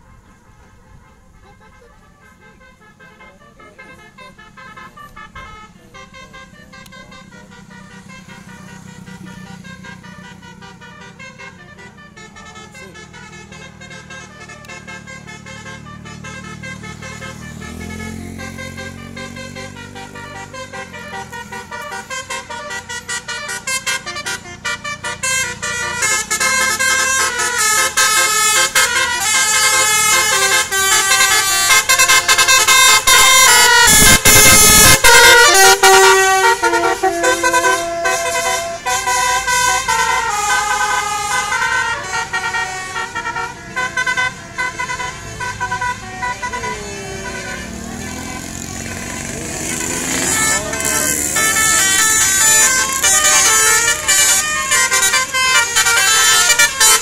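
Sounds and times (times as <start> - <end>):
multi-tone bus horn melody: 0.0 - 57.0
passing bus rush: 0.0 - 57.0.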